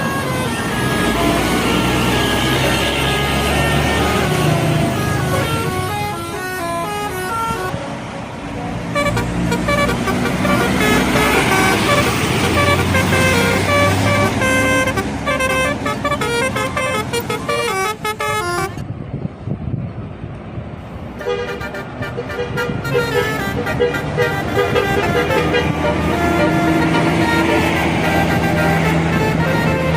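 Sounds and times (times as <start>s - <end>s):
bus horn playing melodies: 0.0s - 7.8s, 8.9s - 18.8s, 21.2s - 29.9s
bus engine and road noise: 0.0s - 29.9s.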